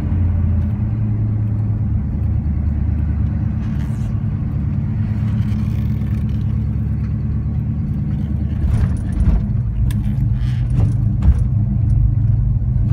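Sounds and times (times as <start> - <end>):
car engine drone from inside cabin: 0.0 - 12.9.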